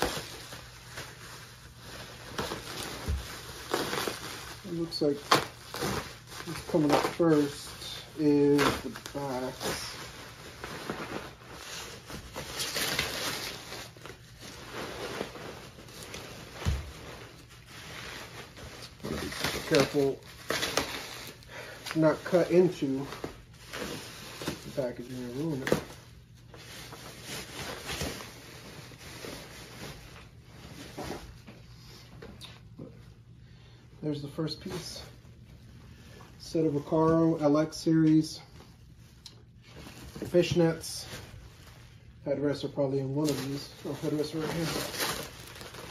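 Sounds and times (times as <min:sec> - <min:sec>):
bubble wrap crinkling: 0:00.0 - 0:31.5, 0:36.4 - 0:45.9.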